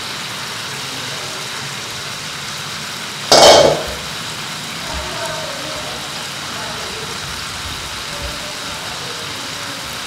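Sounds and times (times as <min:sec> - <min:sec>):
chicken sizzling in a frying pan: 0:00.0 - 0:10.0
loud sizzle burst: 0:00.0 - 0:10.0.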